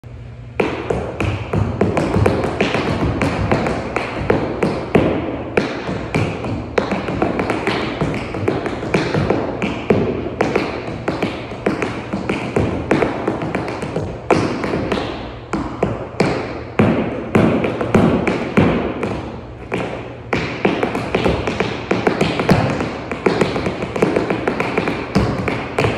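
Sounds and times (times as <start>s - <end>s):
tap shoes clicking on floor: 0.6s - 25.9s.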